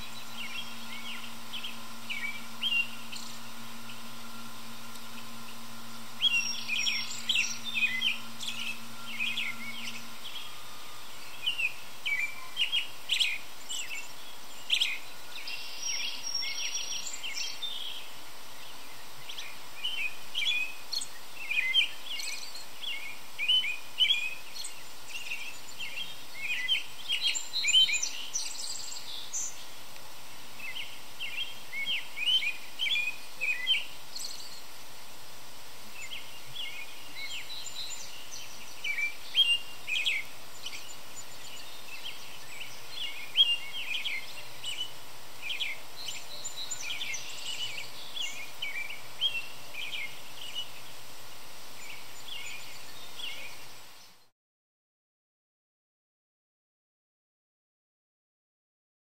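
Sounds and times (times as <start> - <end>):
robin singing: 0.0 - 29.8, 30.6 - 34.7, 35.9 - 51.1, 51.7 - 54.3
faint steady background hiss: 0.0 - 54.3.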